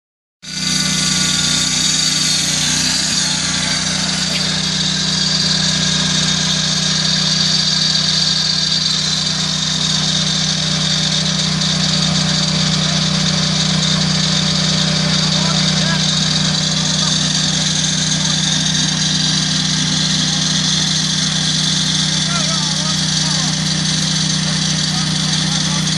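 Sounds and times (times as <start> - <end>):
saw blade whining: 0.4 - 25.9
sawmill engine running: 0.4 - 25.9.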